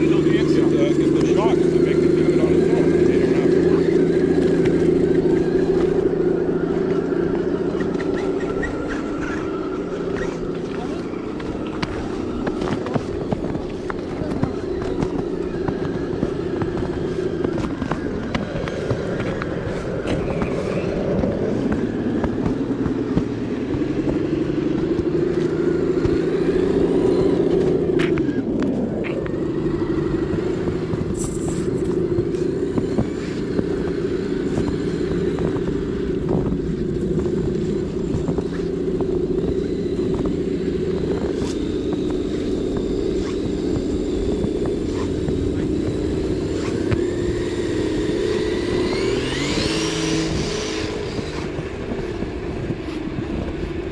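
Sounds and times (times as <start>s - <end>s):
toy truck drivetrain whine: 0.0s - 53.9s.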